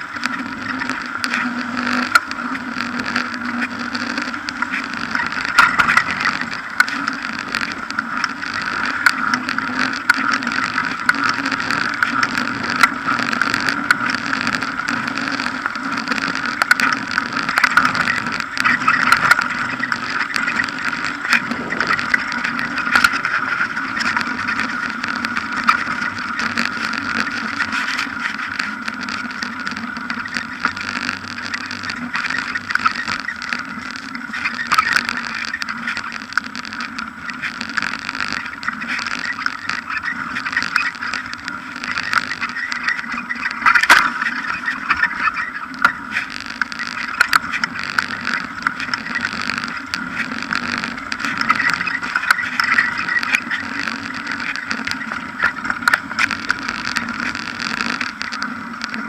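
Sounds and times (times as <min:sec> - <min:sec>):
bicycle tyres rolling on road: 0:00.0 - 0:59.0
bicycle clicks and rattles: 0:03.5 - 0:37.5, 0:38.2 - 0:58.5.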